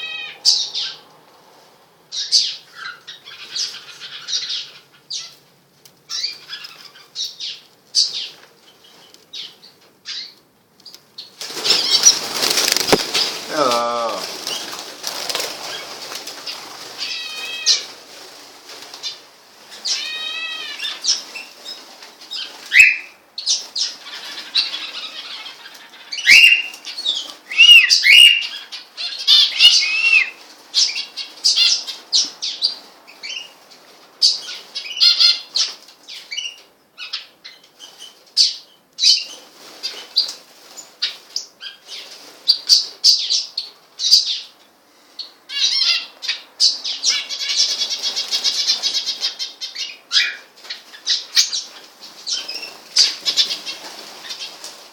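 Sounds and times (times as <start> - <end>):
birds chirping and calling: 0.0 - 1.2, 2.1 - 54.9.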